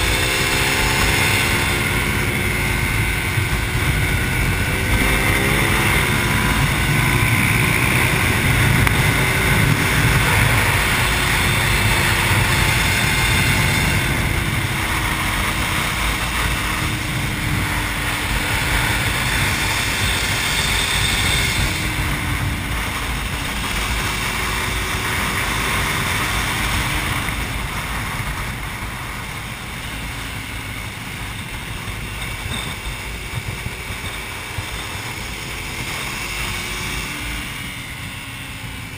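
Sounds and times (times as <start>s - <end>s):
motorcycle engine revving: 0.0s - 38.9s
wind rush on microphone: 0.0s - 38.9s.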